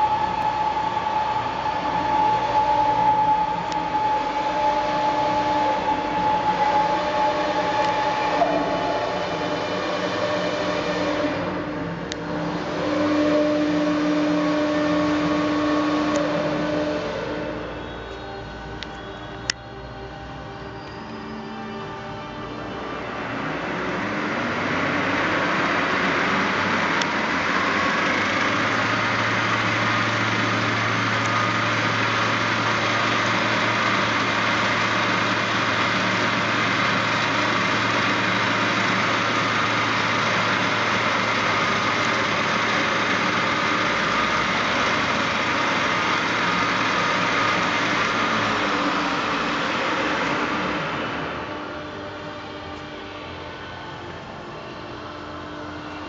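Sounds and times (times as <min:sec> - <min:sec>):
milling machine whining: 0:00.0 - 0:56.0.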